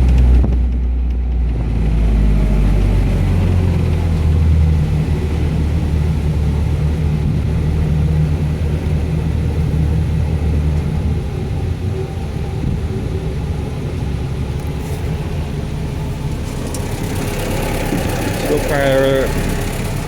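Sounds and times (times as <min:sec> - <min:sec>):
boat engine purring: 0:00.0 - 0:20.0.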